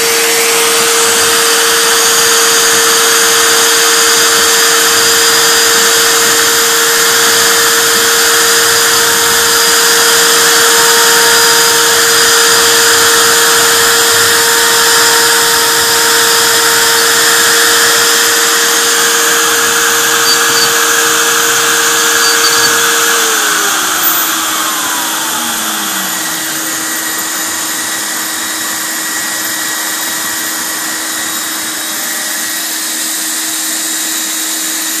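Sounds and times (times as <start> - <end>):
motor humming: 0.0 - 33.3
router spindle motor whining: 0.0 - 35.0.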